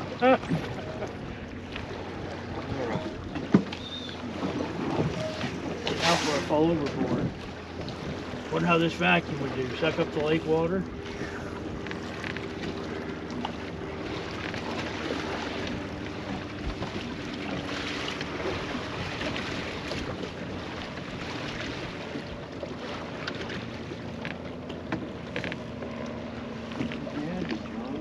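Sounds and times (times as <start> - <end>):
water lapping against a boat: 0.0 - 28.0.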